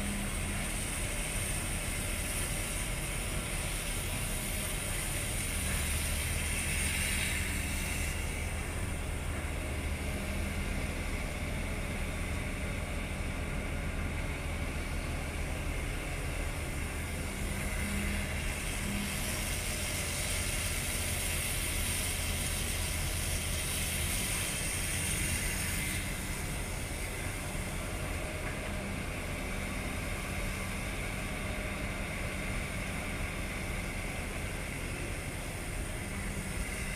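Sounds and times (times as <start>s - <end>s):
hiss: 0.0s - 12.3s, 15.5s - 36.9s
diesel engines droning: 0.0s - 36.9s.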